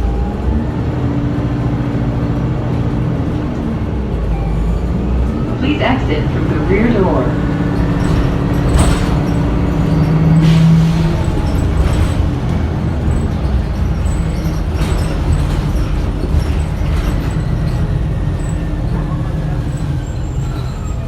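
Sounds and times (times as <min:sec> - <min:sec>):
bus drivetrain rumble: 0:00.0 - 0:21.0.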